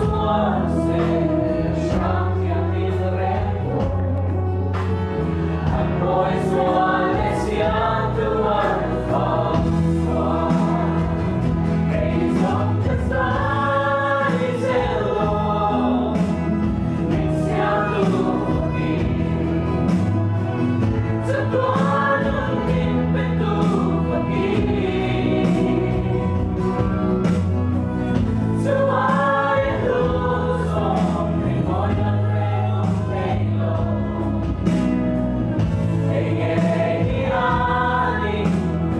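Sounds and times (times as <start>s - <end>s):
band accompaniment: 0.0s - 38.9s
group singing a gospel song: 0.0s - 38.9s
sustained bass notes: 0.0s - 38.9s.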